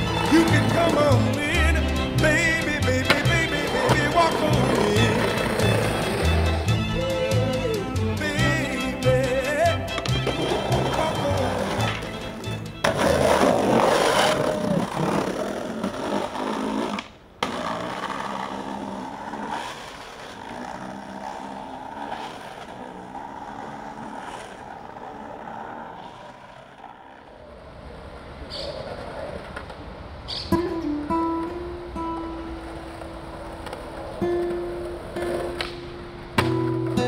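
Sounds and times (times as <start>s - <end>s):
skateboard clacks: 0.0s - 30.6s, 31.3s - 37.0s
skateboard wheels rolling on concrete: 0.0s - 37.0s
street traffic: 0.0s - 37.0s.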